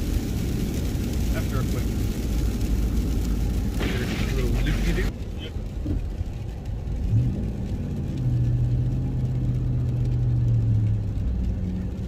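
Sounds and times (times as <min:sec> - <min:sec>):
truck engine: 0:00.0 - 0:12.0
tyres rumbling on snow and ice: 0:00.0 - 0:12.0.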